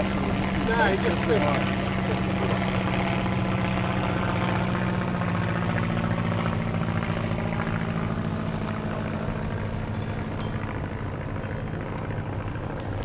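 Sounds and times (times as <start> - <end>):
light aircraft engine droning: 0.0 - 13.0.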